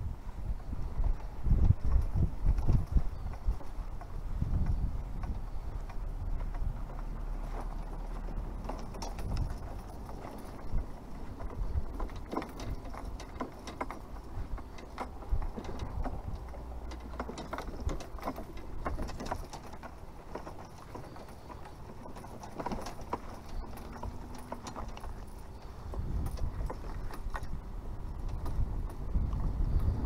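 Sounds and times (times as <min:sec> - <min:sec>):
low steady rumble: 0:00.0 - 0:30.0
carried gear knocking: 0:00.6 - 0:30.0.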